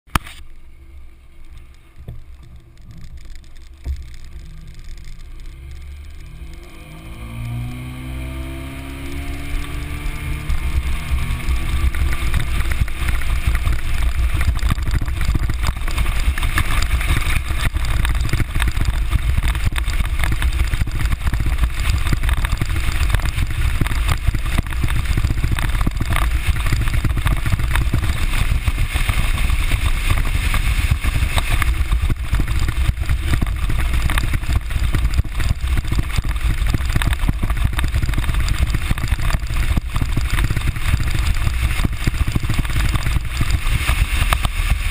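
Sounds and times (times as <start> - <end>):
outboard motor: 0.1 - 44.9
hull rushing through water: 2.4 - 44.9
wind buffeting microphone: 6.2 - 44.9.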